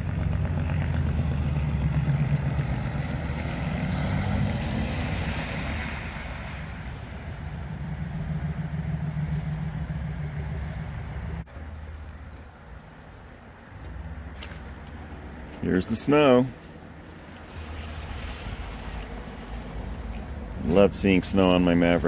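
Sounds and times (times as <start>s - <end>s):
pickup engine pulling away: 0.0s - 22.0s.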